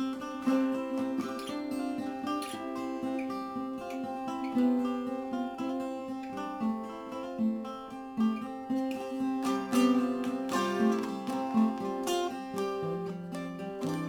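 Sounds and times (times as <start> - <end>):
acoustic guitar plucked melody: 0.0 - 14.0.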